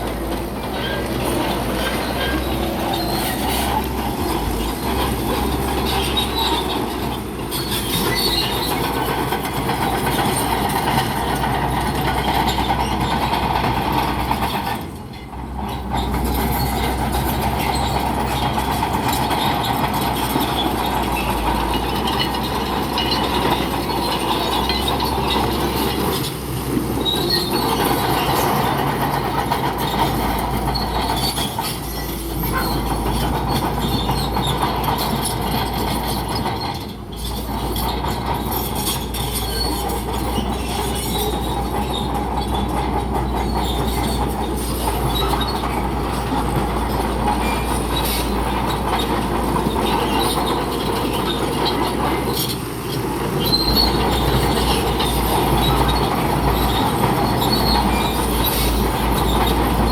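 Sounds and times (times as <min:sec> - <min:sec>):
bulldozer diesel engine under load: 0:00.0 - 0:59.9
steel tracks squealing and clanking: 0:00.0 - 0:59.9.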